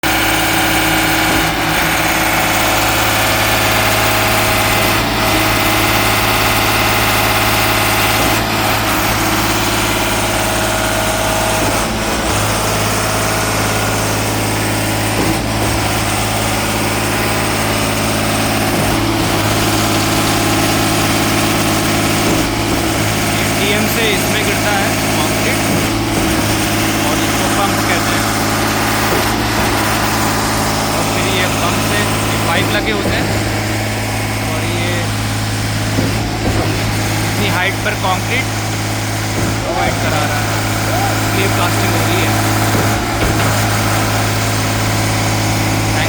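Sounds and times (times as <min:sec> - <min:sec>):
concrete pump engine drone: 0:00.0 - 0:46.0
concrete pump knocking: 0:00.0 - 0:46.0.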